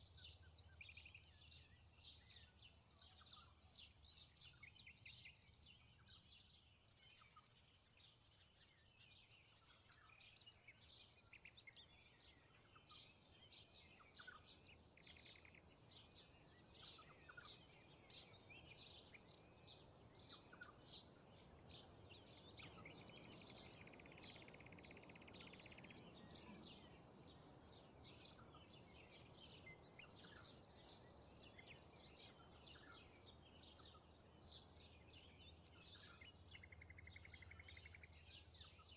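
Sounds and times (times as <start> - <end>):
faint birds chirping: 0.0 - 38.9.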